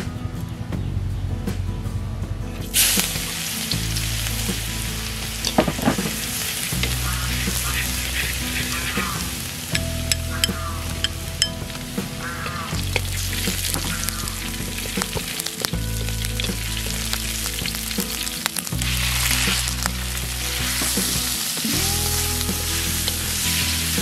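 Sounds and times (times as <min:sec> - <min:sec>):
garlic sizzling in hot oil: 0:02.8 - 0:11.6, 0:12.2 - 0:24.0.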